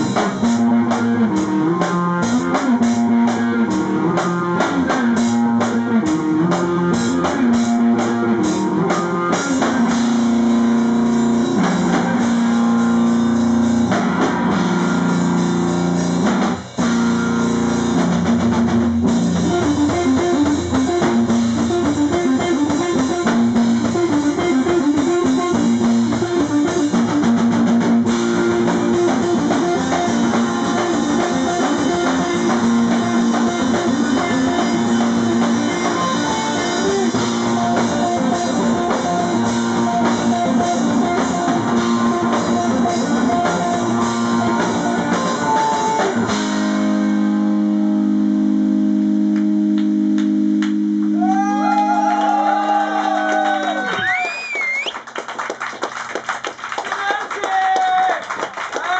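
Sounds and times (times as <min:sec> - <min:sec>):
live rock band playing: 0:00.0 - 0:54.8.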